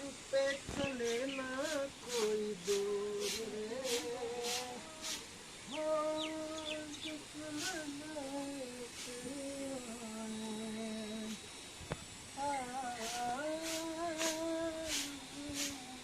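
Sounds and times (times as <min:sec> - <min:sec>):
woman humming: 0:01.0 - 0:11.4, 0:12.4 - 0:16.0.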